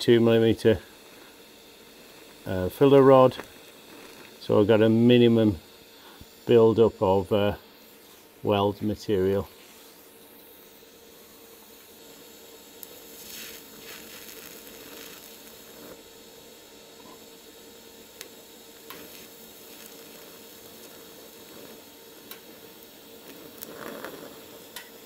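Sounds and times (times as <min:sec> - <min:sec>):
welder hiss and hum: 0:00.0 - 0:25.0
welding arc hiss: 0:00.0 - 0:25.0.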